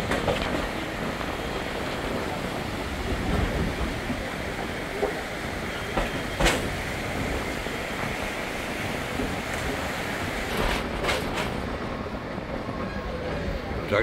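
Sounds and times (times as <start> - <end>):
train wheel clacks: 0.0 - 11.9
train rolling on track: 0.0 - 14.0.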